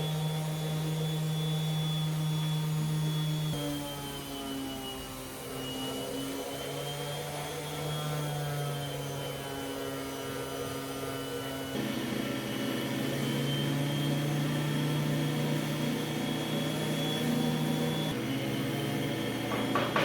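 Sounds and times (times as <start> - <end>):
power tool motor humming: 0.0 - 20.0.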